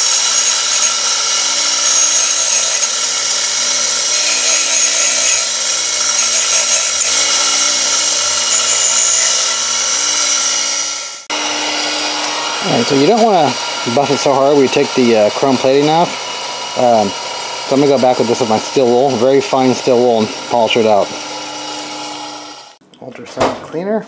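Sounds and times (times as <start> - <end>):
bench grinder whine: 0.0 - 22.8.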